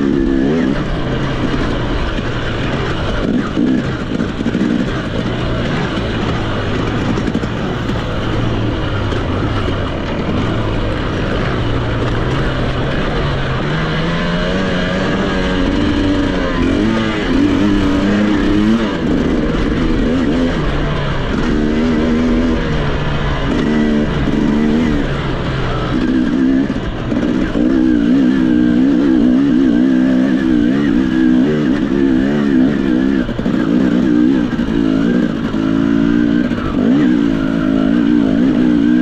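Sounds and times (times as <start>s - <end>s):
off-road motorcycle engine revving: 0.0s - 39.0s
steady rush of noise: 0.0s - 39.0s.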